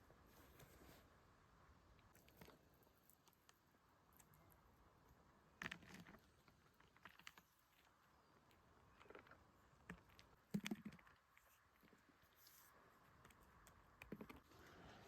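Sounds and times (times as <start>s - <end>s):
faint clicks and crackles: 1.9s - 15.0s.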